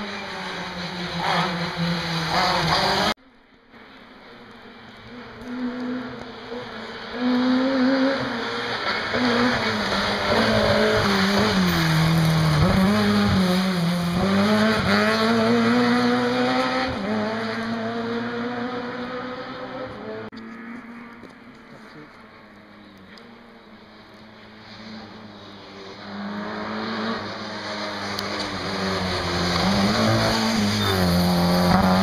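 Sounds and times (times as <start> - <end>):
rally car engine revving: 0.0 - 3.2, 4.7 - 32.0.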